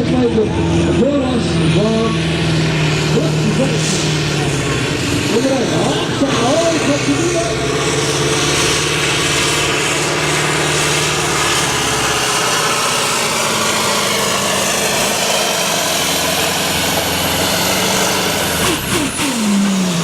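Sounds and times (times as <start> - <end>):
diesel truck engine at full throttle: 0.0 - 20.0.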